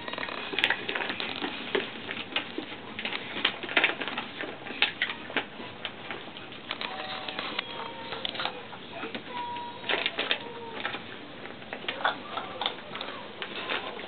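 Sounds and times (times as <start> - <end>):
puppy claws pattering: 0.0 - 14.0.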